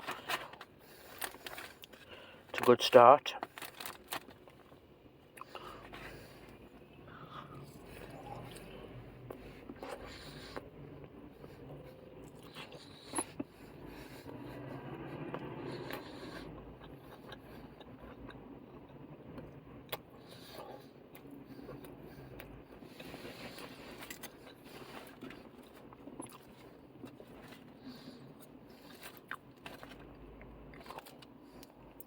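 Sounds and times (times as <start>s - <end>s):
person chewing: 3.8s - 10.7s, 11.4s - 32.0s.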